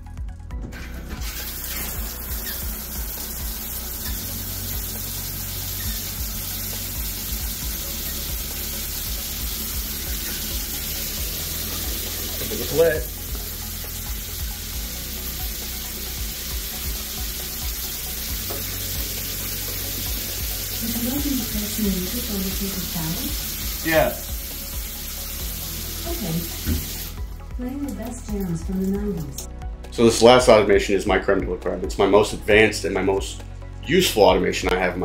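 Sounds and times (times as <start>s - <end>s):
shower spraying water: 0.8s - 29.4s.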